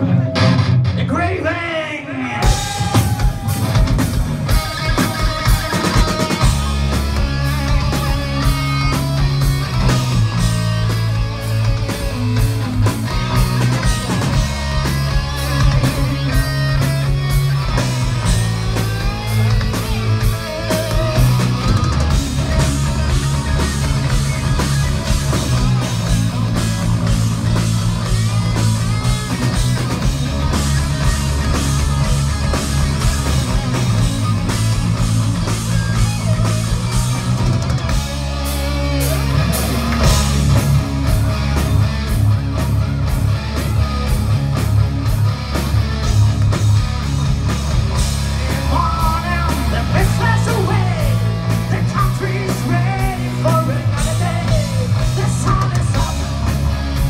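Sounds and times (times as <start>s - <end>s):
bass guitar: 0.0s - 57.0s
distorted electric guitars: 0.0s - 57.0s
fast drum kit strokes: 2.3s - 57.0s.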